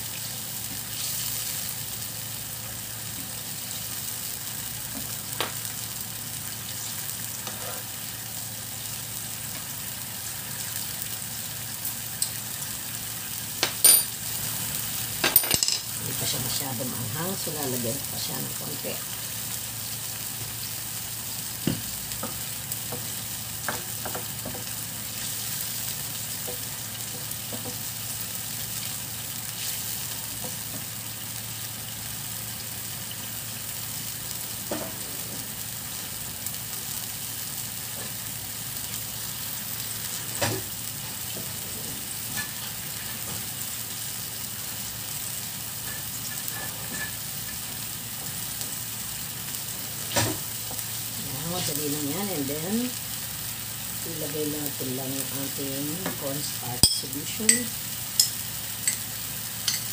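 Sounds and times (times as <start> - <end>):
sauce sizzling in a frying pan: 0.0 - 59.9.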